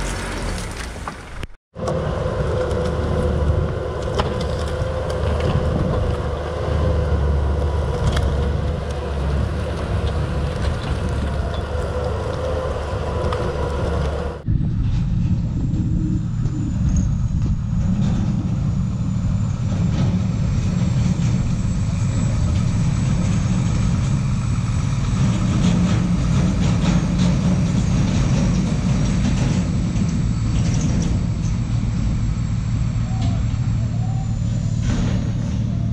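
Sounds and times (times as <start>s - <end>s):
diesel engine running with whine: 0.0s - 35.9s
heavy truck diesel engine running low: 0.0s - 35.9s.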